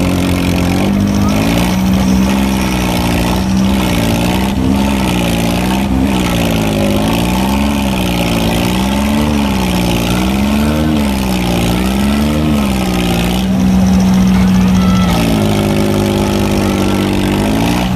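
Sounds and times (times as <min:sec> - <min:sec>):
tractor engine running hard: 0:00.0 - 0:17.9.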